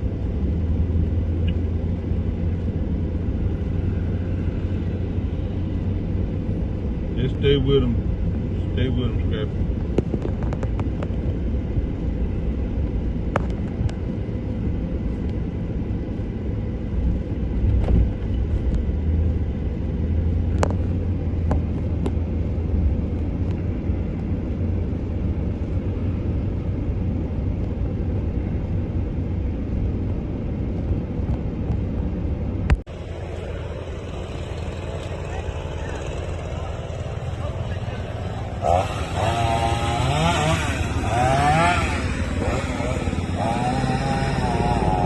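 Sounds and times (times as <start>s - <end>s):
engine running with low rumble: 0.0s - 45.0s.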